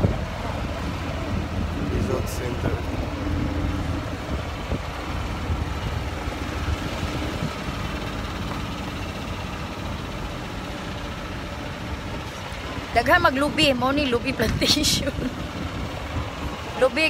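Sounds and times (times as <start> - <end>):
golf cart driving: 0.0 - 17.0.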